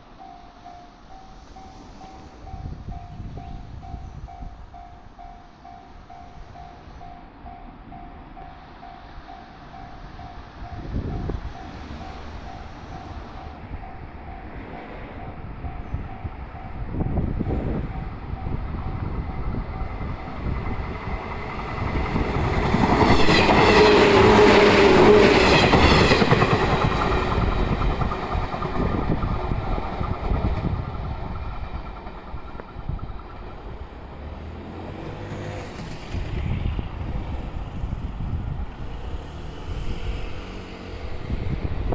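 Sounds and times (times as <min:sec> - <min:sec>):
electric train passing: 0:00.0 - 0:41.9.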